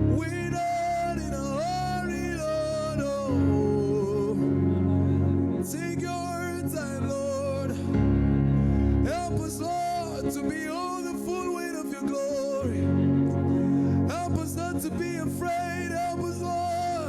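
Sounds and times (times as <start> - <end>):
sustained instrumental chords: 0.0 - 17.0.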